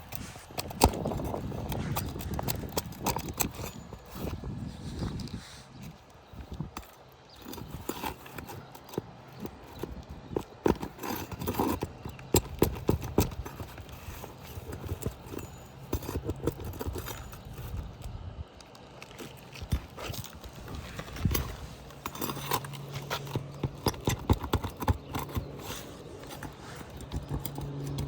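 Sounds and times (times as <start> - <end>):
hand tool pulling nails: 0.0 - 28.0.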